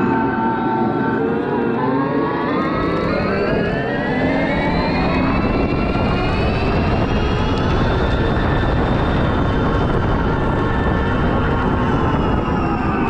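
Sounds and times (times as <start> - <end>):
low wind rumble on microphone: 0.0 - 13.0
synthetic engine whine: 0.0 - 13.0.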